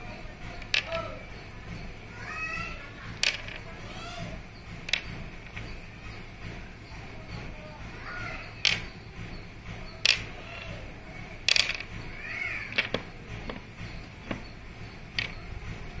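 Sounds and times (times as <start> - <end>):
wooden toy pieces clacking: 0.3 - 1.2, 2.3 - 6.4, 7.3 - 16.0.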